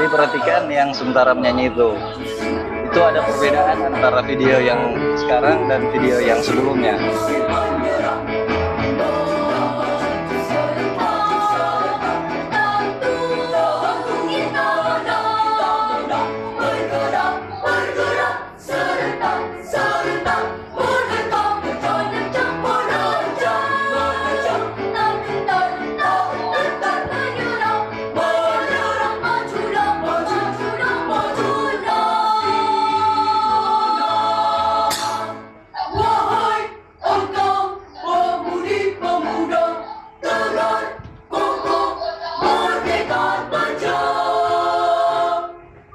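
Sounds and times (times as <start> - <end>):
children's choir singing: 0.0 - 45.9.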